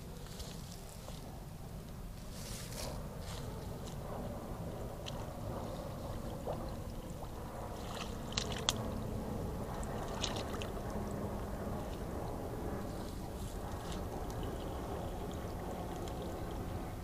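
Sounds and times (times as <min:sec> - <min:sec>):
low rumble: 0:00.0 - 0:17.0
water splashing and sloshing: 0:02.3 - 0:17.0.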